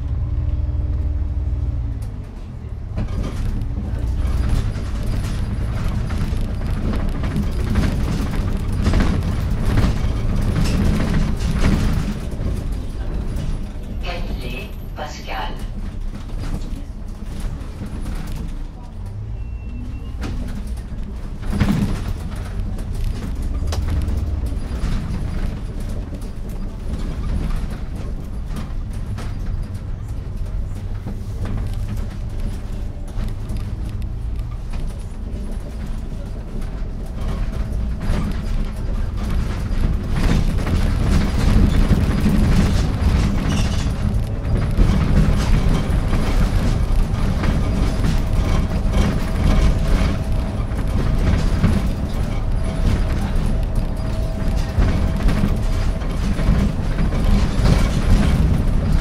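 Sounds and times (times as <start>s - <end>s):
bus engine and road rumble: 0.0s - 59.0s
body rattles and knocks: 2.1s - 14.1s, 15.7s - 19.2s, 19.8s - 59.0s.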